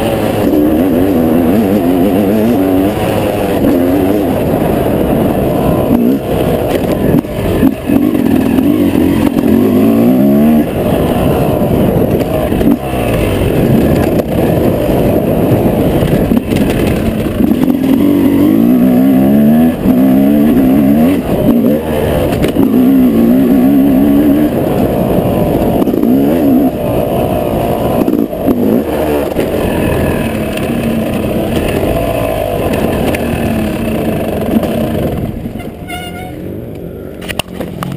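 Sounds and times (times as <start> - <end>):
motorcycle engine revving: 0.0 - 36.6.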